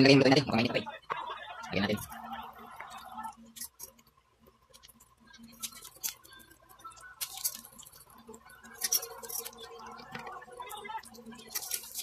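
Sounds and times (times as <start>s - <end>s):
meat crackling in hot oil: 2.0s - 12.0s.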